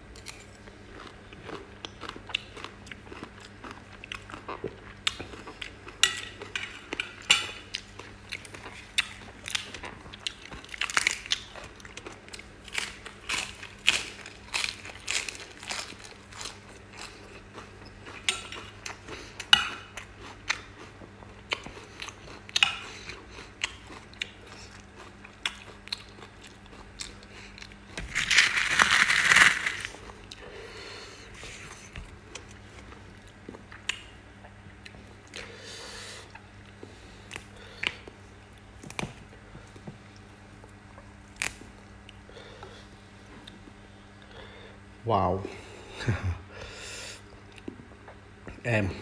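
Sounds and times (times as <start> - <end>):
chewing crisp lettuce: 0.1 - 39.2, 40.2 - 42.4.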